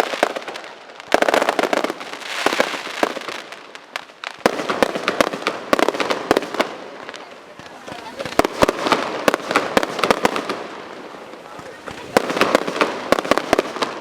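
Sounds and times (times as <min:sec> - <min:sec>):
fireworks bangs: 0:00.0 - 0:14.0
fireworks crackle: 0:00.0 - 0:14.0.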